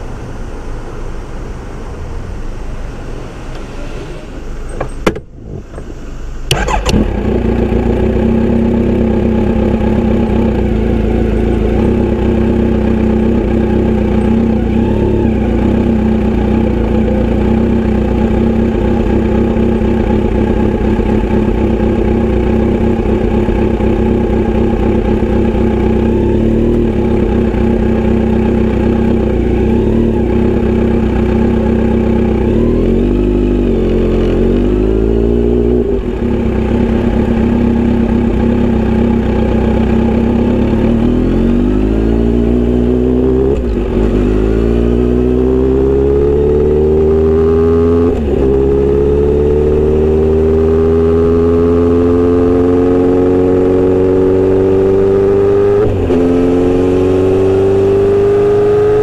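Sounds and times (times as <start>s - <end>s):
motorcycle engine revving: 6.5s - 59.0s.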